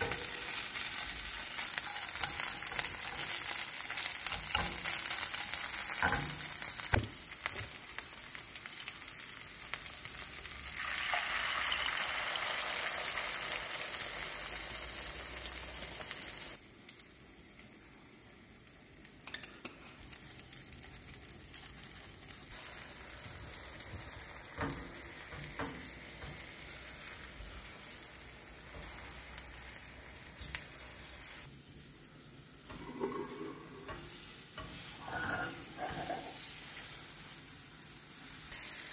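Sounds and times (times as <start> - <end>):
eggs sizzling in frying pan: 0.0 - 38.9.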